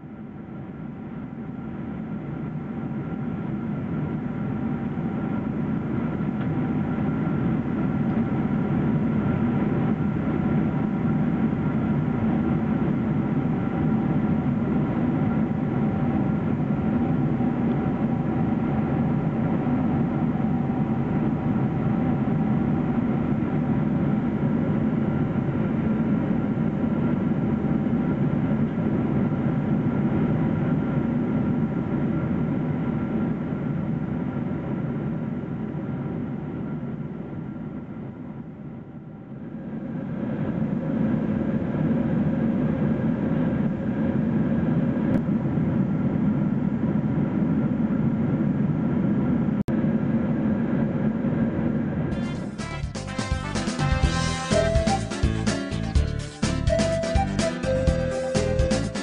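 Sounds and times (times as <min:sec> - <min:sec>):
airplane cabin roar: 0:00.0 - 0:59.0.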